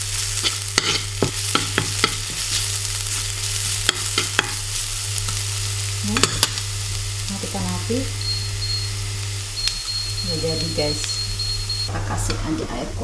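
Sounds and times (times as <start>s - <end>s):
garlic sizzling in a pan: 0.0s - 13.0s.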